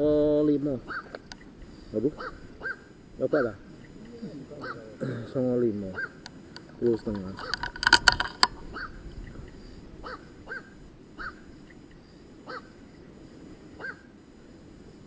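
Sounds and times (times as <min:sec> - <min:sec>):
faint background hiss: 0:00.0 - 0:15.0
herons calling hoarsely: 0:00.0 - 0:15.0.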